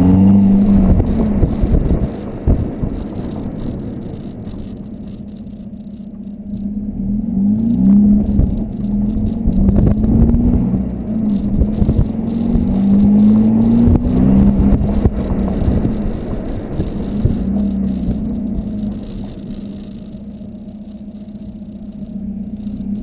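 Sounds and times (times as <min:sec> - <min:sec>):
light rattling: 0:00.0 - 0:06.7, 0:07.6 - 0:23.0
diesel car exhaust accelerating: 0:00.0 - 0:23.0.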